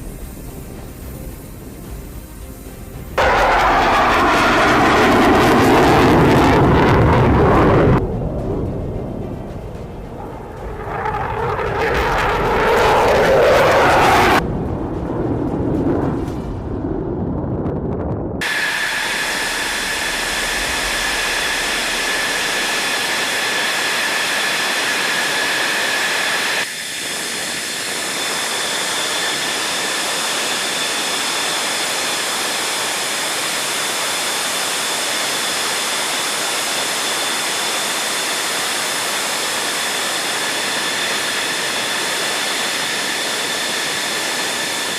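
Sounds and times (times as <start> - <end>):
jet engine rushing and whining: 0.0 - 44.9.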